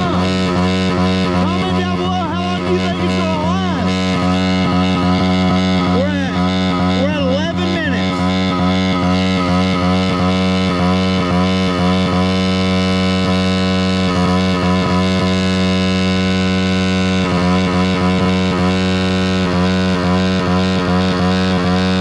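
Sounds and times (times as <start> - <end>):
motorbike engine at high revs: 0.0 - 22.0.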